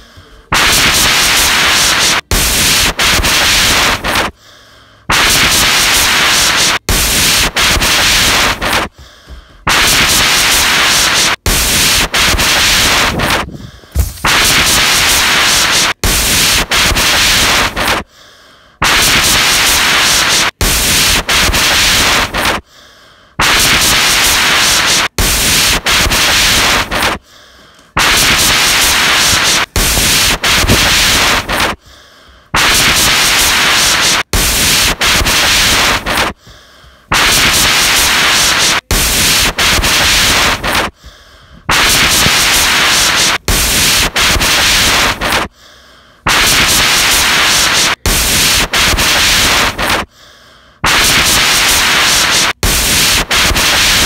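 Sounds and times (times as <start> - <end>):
loud hissing static: 0.0 - 4.4, 5.1 - 9.0, 9.6 - 18.1, 18.8 - 22.6, 23.4 - 27.2, 27.8 - 31.8, 32.5 - 36.4, 37.0 - 41.0, 41.7 - 45.5, 46.2 - 50.1, 50.8 - 54.0.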